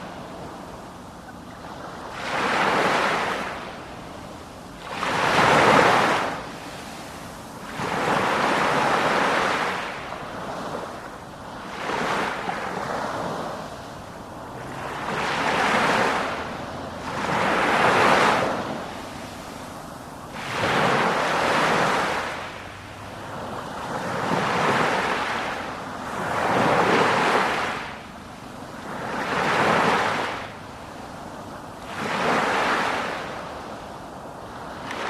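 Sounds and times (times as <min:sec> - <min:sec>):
sea waves washing in: 0:00.0 - 0:35.0.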